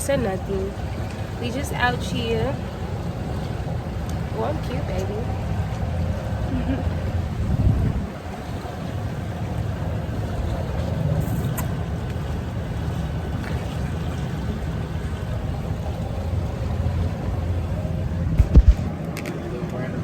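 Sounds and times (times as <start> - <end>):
motorboat engine rumble: 0.0 - 20.0.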